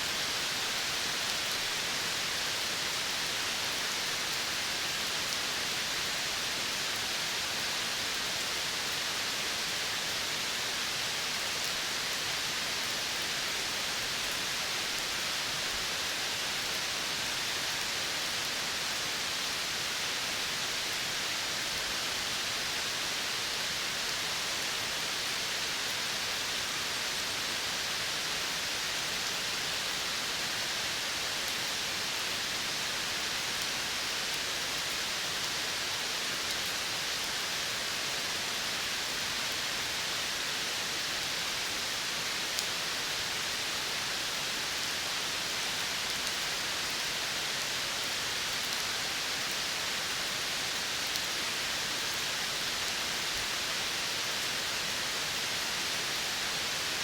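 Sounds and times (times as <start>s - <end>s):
forest ambience hiss: 0.0s - 57.0s.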